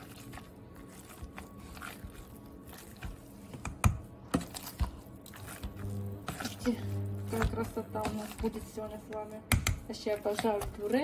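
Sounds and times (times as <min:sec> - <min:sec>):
potato masher squashing potatoes: 0:00.0 - 0:11.0.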